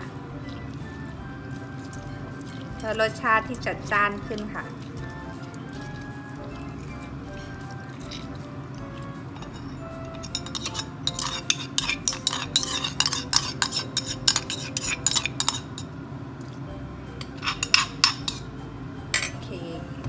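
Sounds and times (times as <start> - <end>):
metal spoon scraping stone mortar: 0.0 - 15.9, 17.2 - 18.5
spoon stirring in metal pot: 0.0 - 16.6, 17.2 - 18.5.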